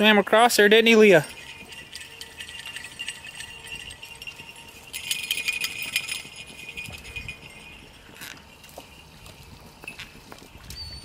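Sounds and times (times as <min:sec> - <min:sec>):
dog collar jingling: 0:00.8 - 0:11.0.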